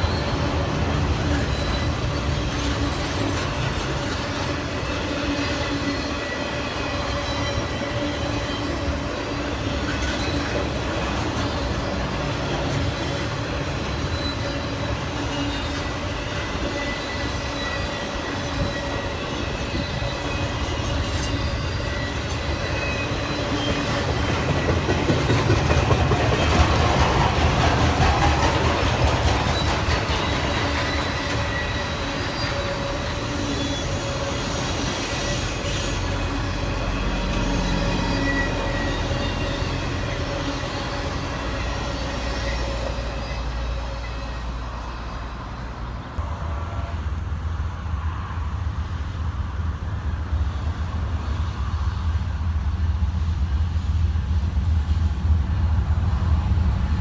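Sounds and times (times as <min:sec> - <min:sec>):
train wheels squealing: 0:00.0 - 0:46.2, 0:50.0 - 0:57.0
train rumbling on rails: 0:00.0 - 0:57.0.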